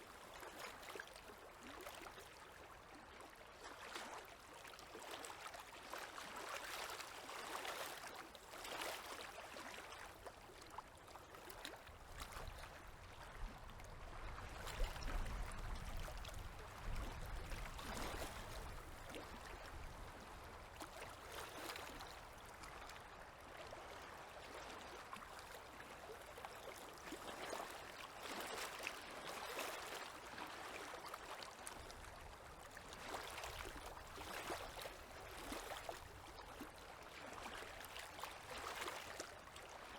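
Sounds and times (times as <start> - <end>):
river waves lapping at shore: 0.0 - 39.9.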